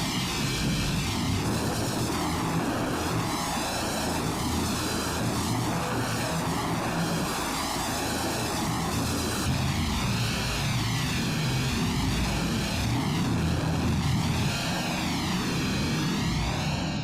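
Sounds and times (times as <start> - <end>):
hissing droning noise with flanger: 0.0 - 17.0.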